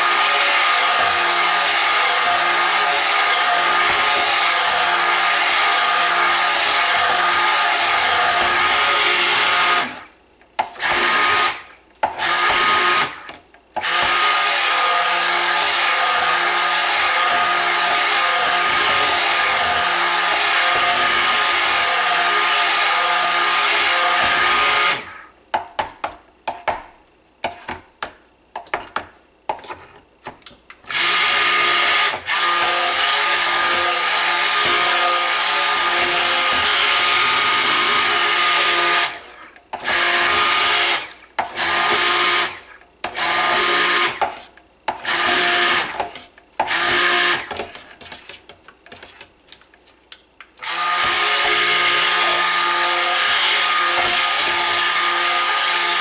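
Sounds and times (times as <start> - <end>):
stick blender running: 0.0 - 10.1, 10.8 - 25.2, 30.8 - 47.8, 50.6 - 56.0.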